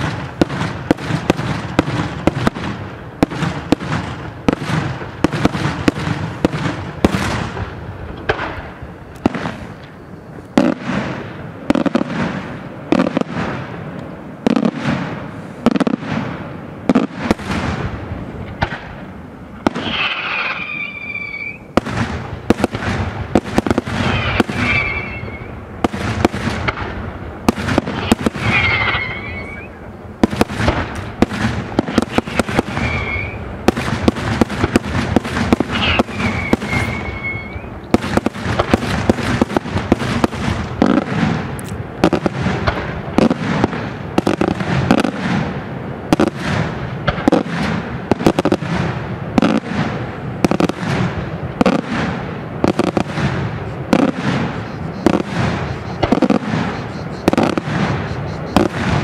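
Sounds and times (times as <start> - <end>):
fireworks whistles: 0.0 - 13.8, 14.4 - 59.0
fireworks bangs: 0.0 - 59.0.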